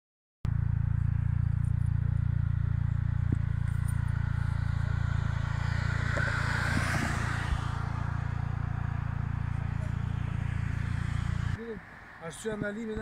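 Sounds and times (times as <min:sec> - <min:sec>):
car engine and road rumble: 0:00.4 - 0:13.0.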